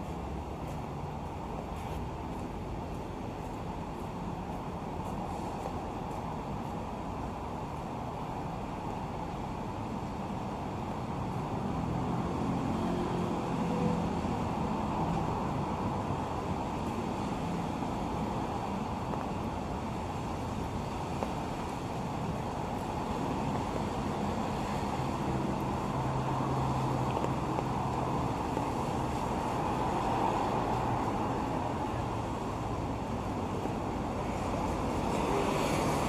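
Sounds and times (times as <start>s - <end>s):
city traffic rumble: 0.0s - 36.0s.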